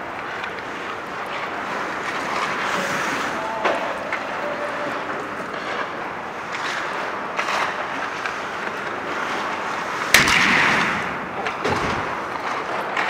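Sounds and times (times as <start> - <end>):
skate blades scraping ice: 0.0 - 13.0
puck impact: 0.2 - 13.0.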